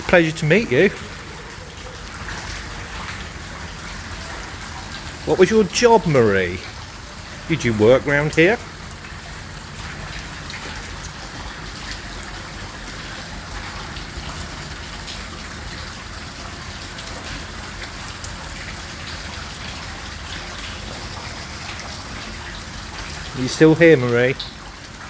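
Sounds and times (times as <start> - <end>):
heavy rain: 0.0 - 25.0
raindrops tapping close by: 0.0 - 25.0.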